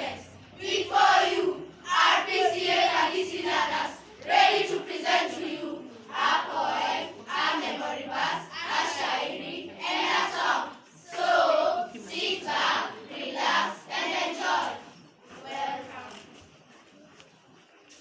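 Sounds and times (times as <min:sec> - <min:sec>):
children chanting in unison: 0:00.0 - 0:16.1.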